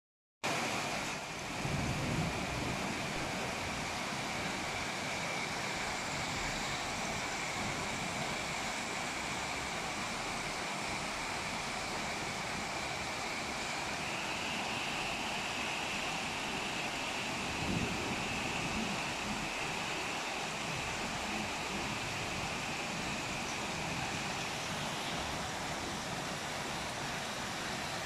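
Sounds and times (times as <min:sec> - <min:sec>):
heavy rain falling: 0:00.5 - 0:28.0.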